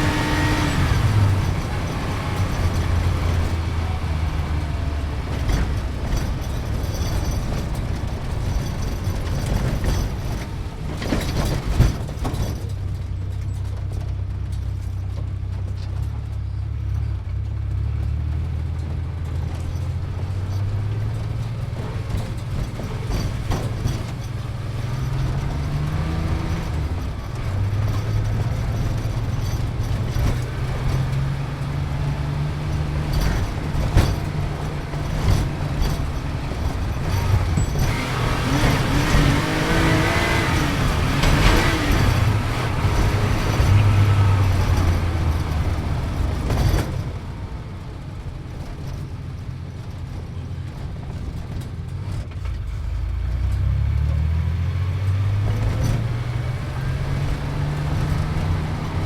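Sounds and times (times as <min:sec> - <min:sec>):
car engine drone from inside: 0:00.0 - 0:59.0.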